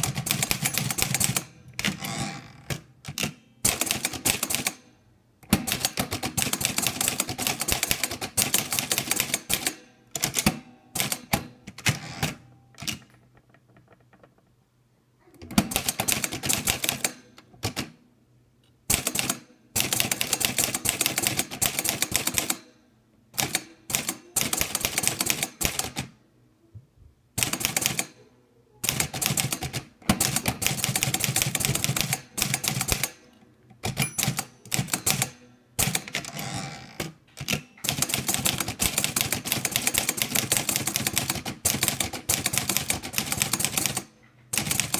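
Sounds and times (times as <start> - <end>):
manual typewriter typing: 0.0 - 2.1, 2.7 - 4.8, 5.5 - 13.2, 15.5 - 17.9, 18.9 - 22.7, 23.4 - 26.1, 27.4 - 28.2, 28.8 - 36.4, 37.0 - 44.9.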